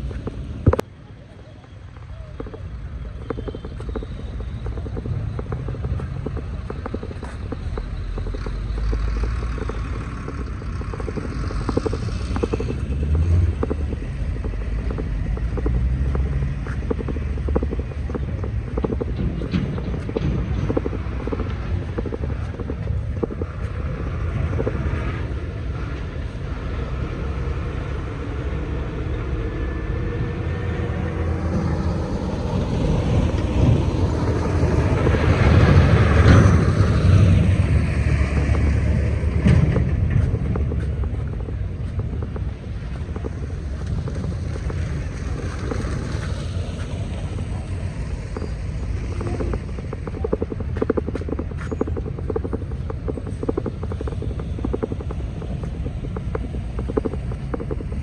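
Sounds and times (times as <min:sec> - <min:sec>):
vehicle engine running: 0:00.0 - 0:58.0
wind buffeting microphone: 0:00.0 - 0:58.0.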